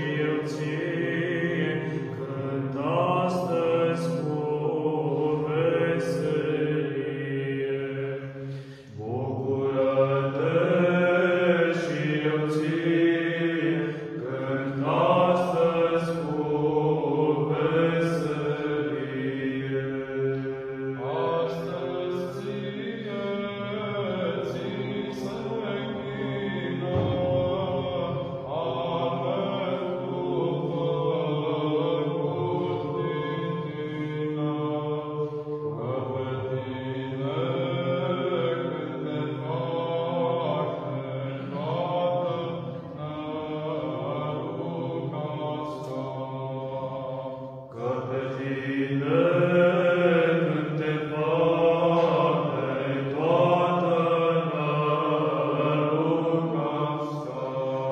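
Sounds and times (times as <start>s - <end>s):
low held vocal drone: 0.0s - 57.9s
male choir chanting a cappella: 0.0s - 57.9s.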